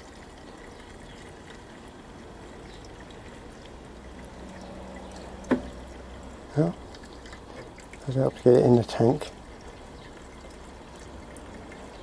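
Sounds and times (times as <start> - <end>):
fuel pouring into a tank: 0.0 - 12.0.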